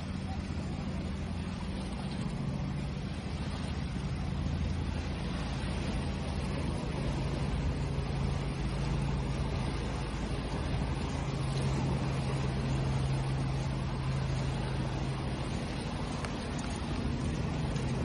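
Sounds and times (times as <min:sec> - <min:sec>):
constant low hum: 0:00.0 - 0:18.0
ocean waves: 0:00.0 - 0:18.0.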